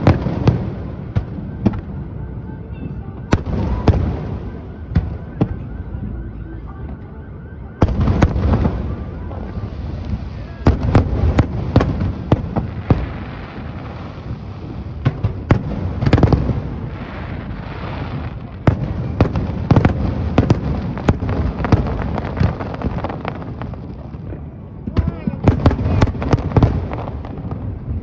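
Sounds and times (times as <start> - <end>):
fireworks bangs: 0.0 - 7.0, 7.8 - 28.0
fireworks crackling: 0.0 - 28.0.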